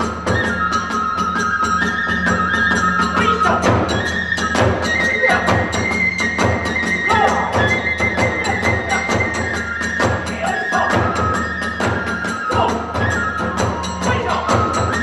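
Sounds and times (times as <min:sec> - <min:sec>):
bamboo flute high note: 0:00.2 - 0:15.0.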